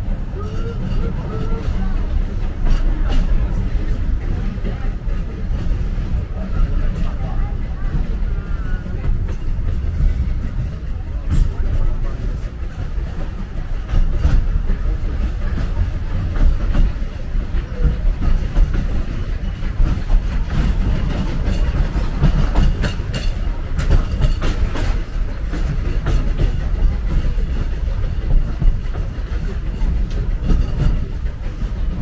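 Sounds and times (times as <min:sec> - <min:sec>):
train rumbling on track: 0:00.0 - 0:32.0
wheels clacking over rails: 0:00.0 - 0:32.0.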